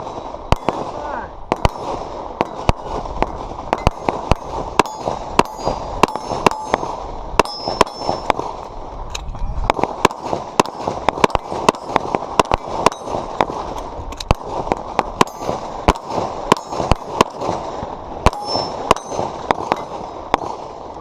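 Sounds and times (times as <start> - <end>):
pistol shots: 0.0 - 8.7, 9.6 - 20.8.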